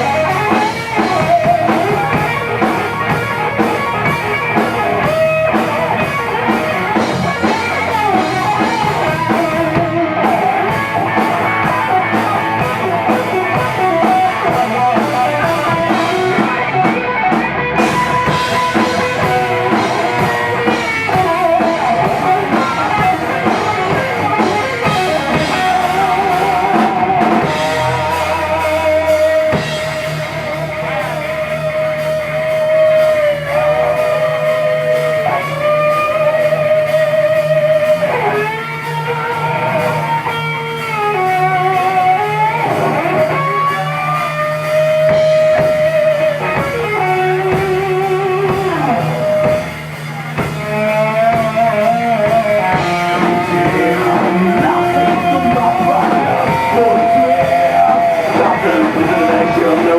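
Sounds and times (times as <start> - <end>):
bass guitar: 0.0 - 59.9
drums: 0.0 - 59.9
lead electric guitar melody: 0.0 - 59.9
rhythm guitar: 0.0 - 59.9.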